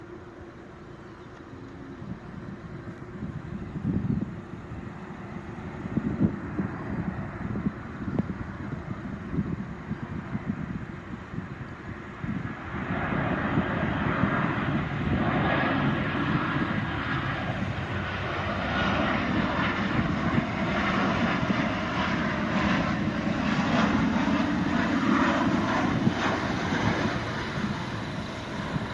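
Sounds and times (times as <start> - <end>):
airliner jet engines landing: 0.0 - 28.9.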